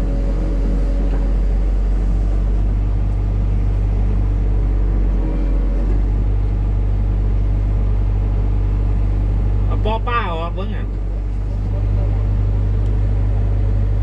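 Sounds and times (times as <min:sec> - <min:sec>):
excavator diesel engine humming: 0:00.0 - 0:14.0.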